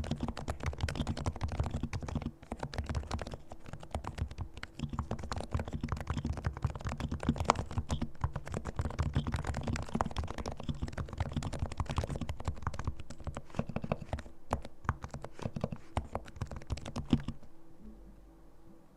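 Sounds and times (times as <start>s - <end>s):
fast keyboard typing: 0.0s - 17.5s.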